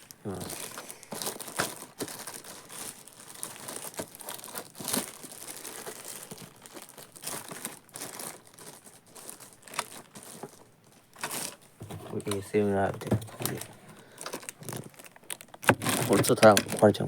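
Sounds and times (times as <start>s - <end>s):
packaging crinkling: 0.0s - 17.0s.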